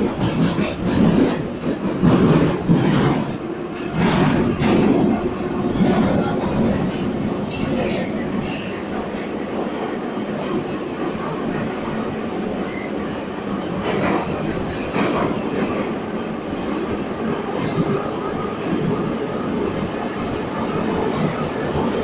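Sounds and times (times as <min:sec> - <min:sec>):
metro wheels rumbling: 0:00.0 - 0:22.0.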